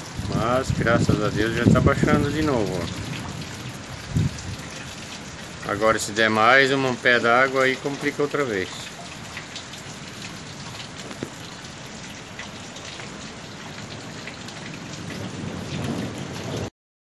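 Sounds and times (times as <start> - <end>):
heavy rain on flooded street: 0.0 - 16.7.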